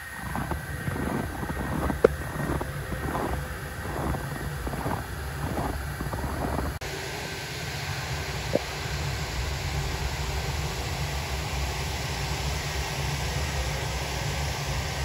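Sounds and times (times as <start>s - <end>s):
snow cannon whirring rumble: 0.0s - 15.0s.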